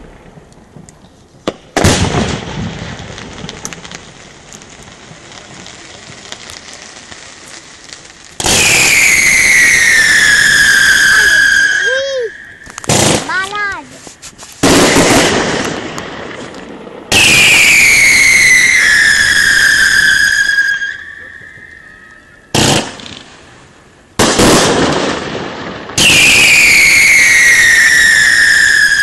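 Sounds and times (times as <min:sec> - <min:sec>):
fireworks bangs: 0:00.0 - 0:29.0
whistling fireworks: 0:00.0 - 0:29.0.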